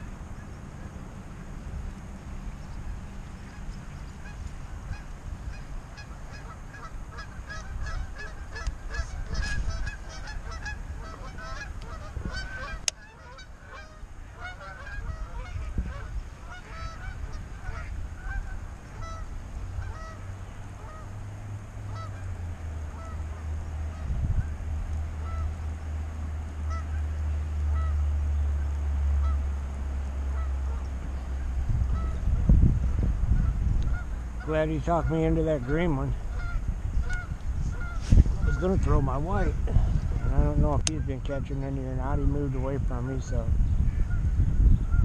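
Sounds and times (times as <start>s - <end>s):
low rumble: 0.0s - 45.0s
geese honking: 2.6s - 41.2s, 42.8s - 45.0s.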